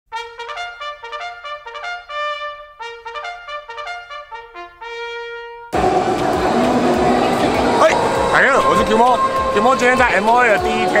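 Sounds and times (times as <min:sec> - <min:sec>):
trumpet playing quick melody: 0:00.1 - 0:11.0.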